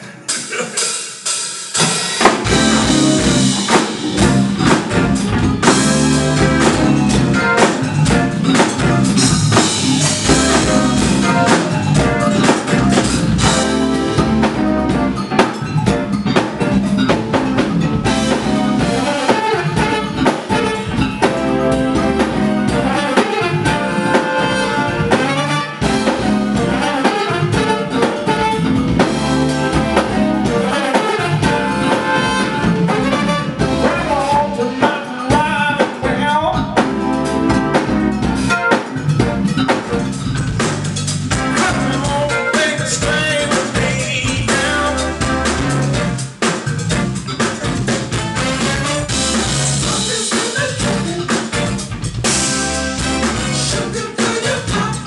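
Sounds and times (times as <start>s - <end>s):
drum kit beat: 0.0s - 55.0s
funk band playing: 0.0s - 55.0s.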